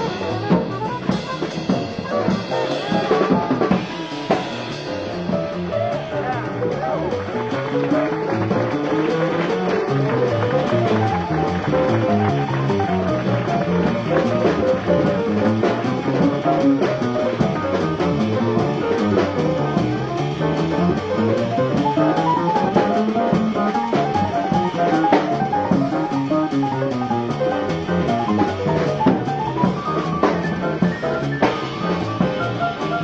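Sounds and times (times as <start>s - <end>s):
digital piano: 0.0s - 33.0s
drum kit: 0.0s - 33.0s
upright bass: 0.0s - 33.0s.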